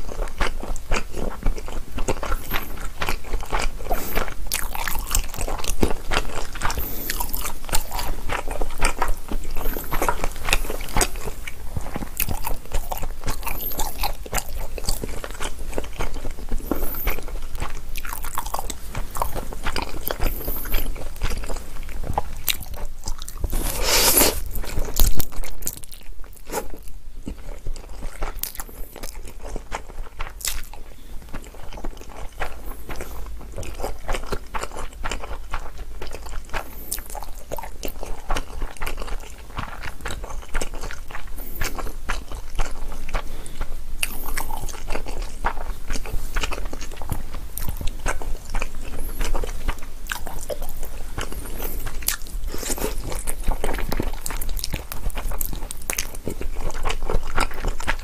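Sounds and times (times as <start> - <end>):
chewing and mouth smacking: 0.0 - 58.0.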